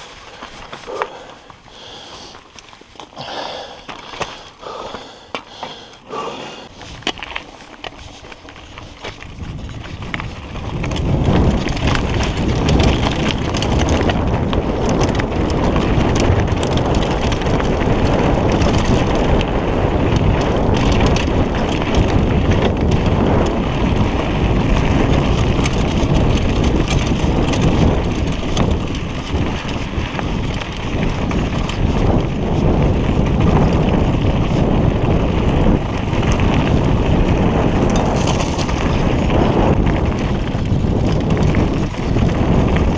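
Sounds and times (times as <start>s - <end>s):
bike tyres crunching over stones: 0.0s - 42.9s
wind noise on microphone: 5.7s - 42.9s.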